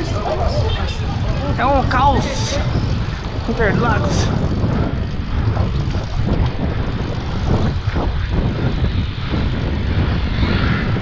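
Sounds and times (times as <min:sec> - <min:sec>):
car traffic: 0:00.0 - 0:11.0
wind buffeting microphone: 0:00.0 - 0:11.0.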